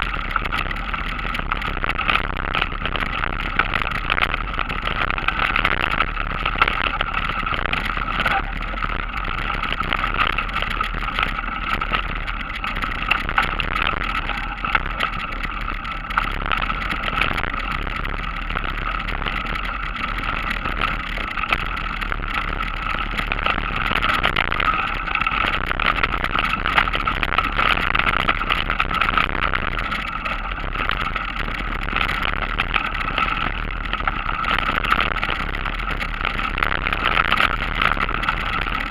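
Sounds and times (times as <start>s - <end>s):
bike rattles and clicks: 0.0s - 38.9s
bike tyres on dirt track: 0.0s - 38.9s.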